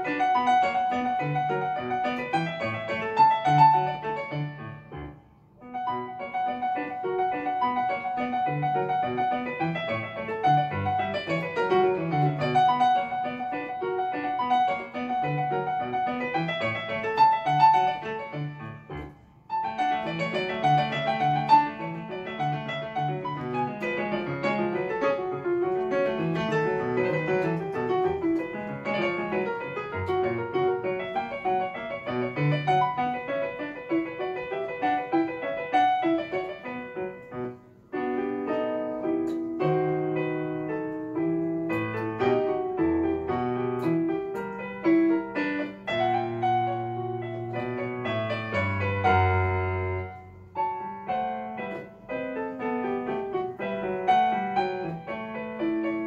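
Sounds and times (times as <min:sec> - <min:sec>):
electronic keyboard piano piece: 0:00.0 - 0:56.0.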